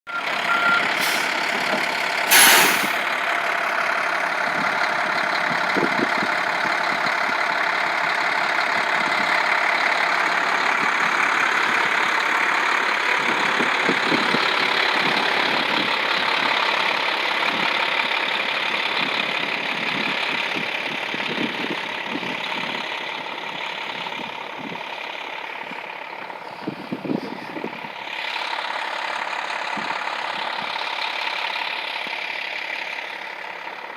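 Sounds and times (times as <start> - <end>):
vehicle engine running: 0.1 - 33.9.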